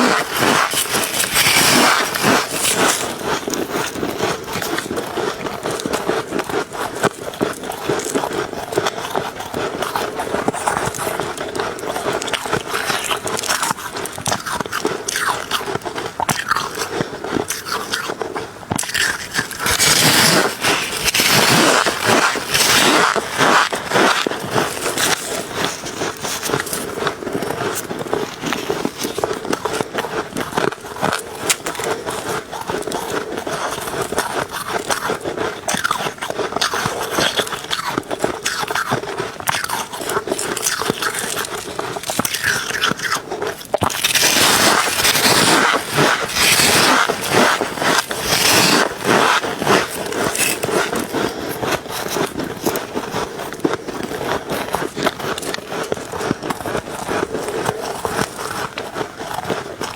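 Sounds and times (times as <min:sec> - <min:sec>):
crunching of ice: 0:00.0 - 0:59.9.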